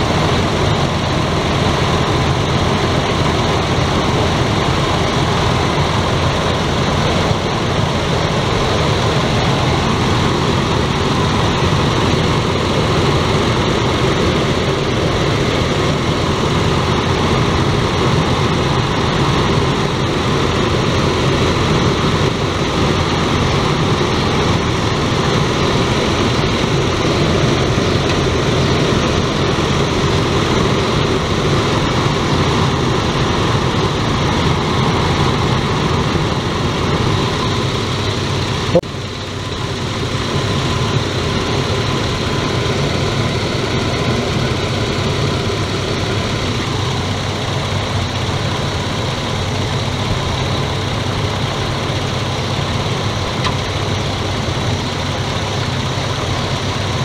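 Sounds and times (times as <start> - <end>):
car engine idling roughly: 0.0 - 57.0.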